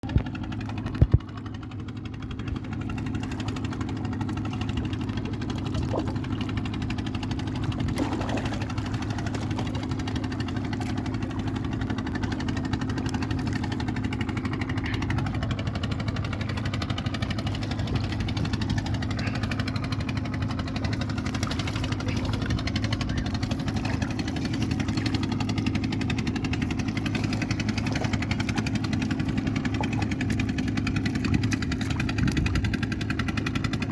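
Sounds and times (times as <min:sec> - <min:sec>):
small engine idling: 0:00.0 - 0:33.9.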